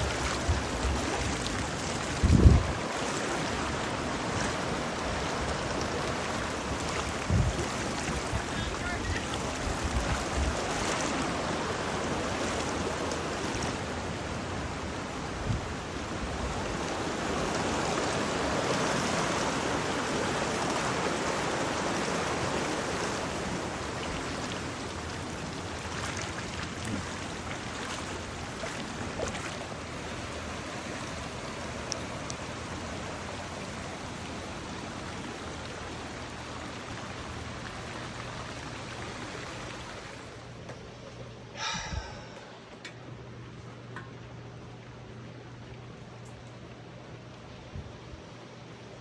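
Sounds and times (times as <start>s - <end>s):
rushing floodwater: 0.0s - 42.7s.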